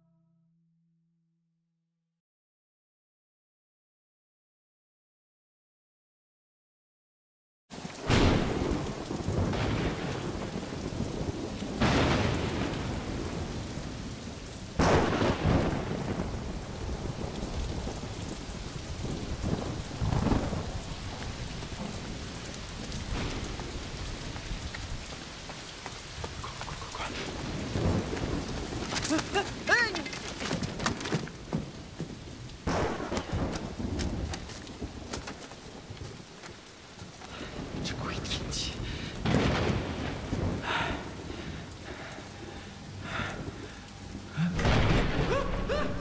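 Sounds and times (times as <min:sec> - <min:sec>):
heavy rain pouring: 0:07.7 - 0:46.0
thunder claps: 0:07.8 - 0:46.0.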